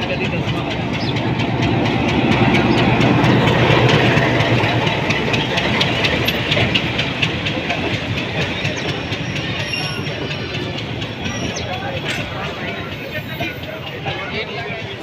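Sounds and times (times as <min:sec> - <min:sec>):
diesel locomotive engine: 0:00.0 - 0:15.0
wheels clacking over rail joints: 0:00.0 - 0:15.0.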